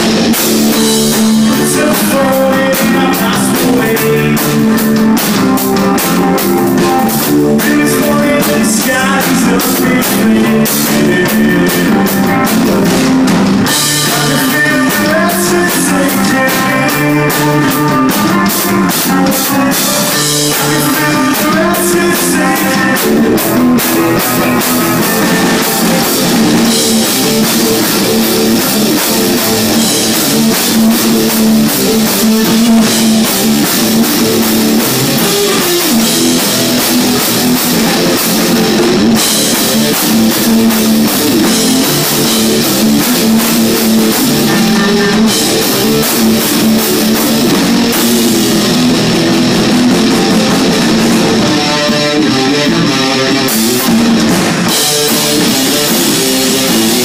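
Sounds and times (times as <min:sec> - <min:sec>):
drum kit: 0:00.0 - 0:57.0
electric guitar: 0:00.0 - 0:57.0.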